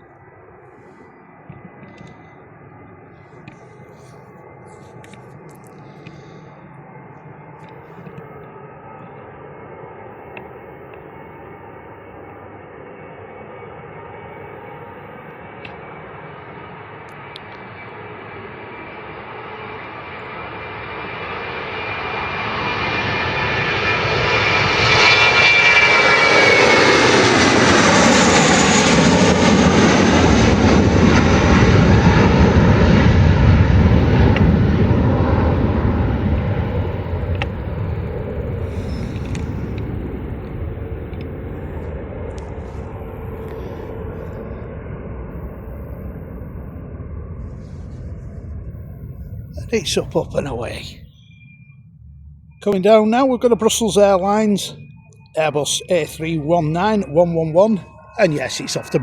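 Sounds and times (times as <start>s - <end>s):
jet plane taking off: 0.0s - 59.0s
jet whine gliding downward: 0.0s - 59.0s.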